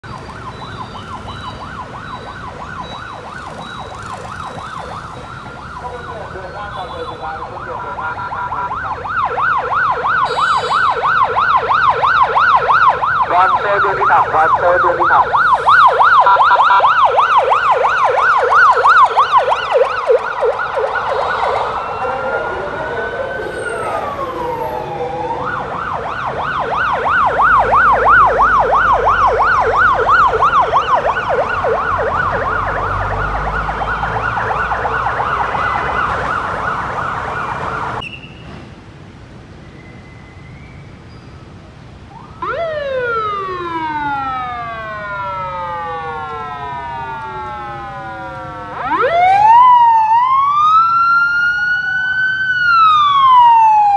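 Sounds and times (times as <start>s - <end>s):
siren wail: 0.0s - 38.0s, 42.0s - 53.9s
siren yelp: 0.0s - 38.1s, 42.0s - 53.9s.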